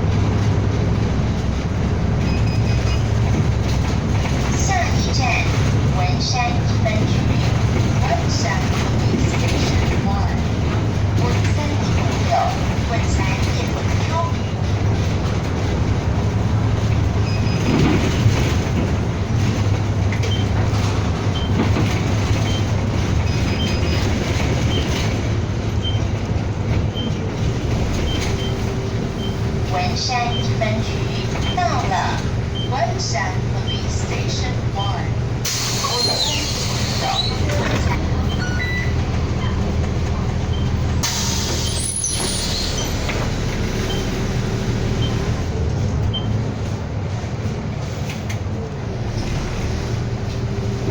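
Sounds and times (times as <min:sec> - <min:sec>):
bus engine drone: 0:00.0 - 0:50.9
road noise: 0:00.0 - 0:50.9.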